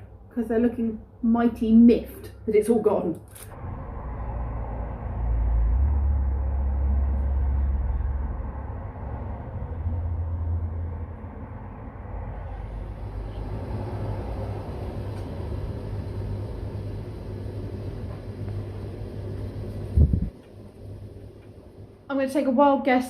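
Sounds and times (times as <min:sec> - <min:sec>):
cars passing with low rumble: 0:03.5 - 0:22.1.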